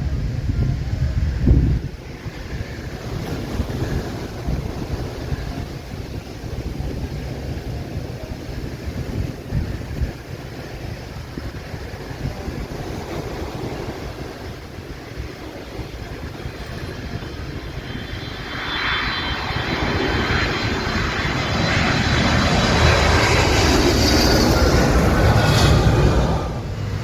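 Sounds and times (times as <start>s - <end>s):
jet airliner engine rumble and whine: 0.0s - 27.0s
surf: 1.2s - 27.0s.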